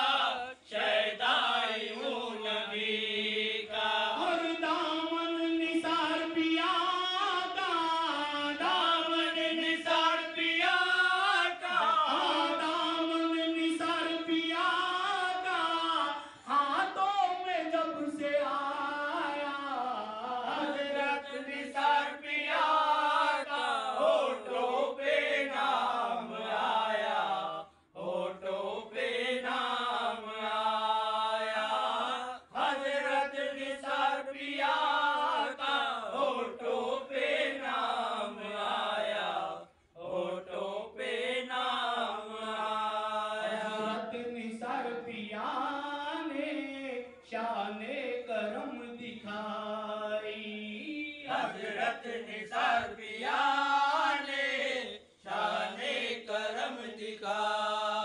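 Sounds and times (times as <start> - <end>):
man chanting devotional song: 0.0 - 58.0.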